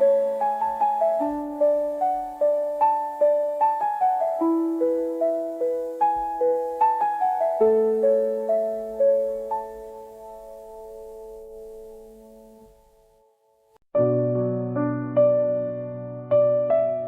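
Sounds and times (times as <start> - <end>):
gentle solo piano lullaby: 0.0 - 12.9, 14.0 - 17.0.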